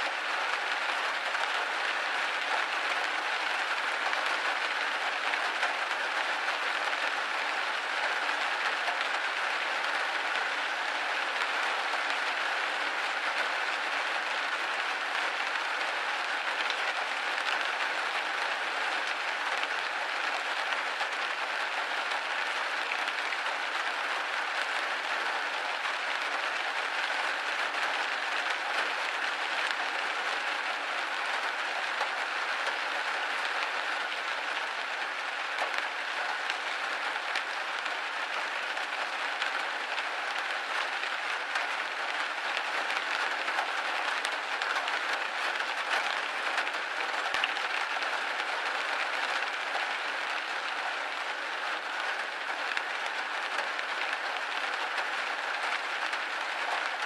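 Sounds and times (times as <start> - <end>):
rain pattering on a window: 0.0 - 57.0.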